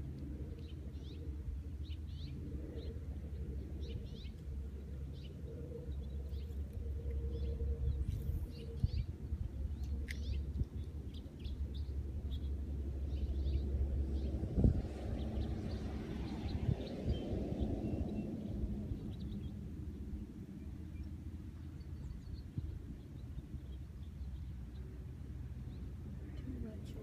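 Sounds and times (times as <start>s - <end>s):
steady low rumble: 0.0s - 27.0s
small birds chirping: 0.3s - 27.0s.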